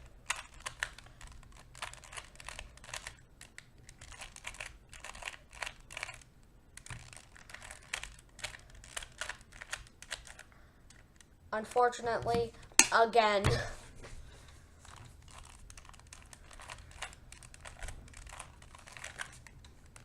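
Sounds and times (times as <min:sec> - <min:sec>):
puzzle cube plastic clicks: 0:00.0 - 0:12.9, 0:14.8 - 0:20.0.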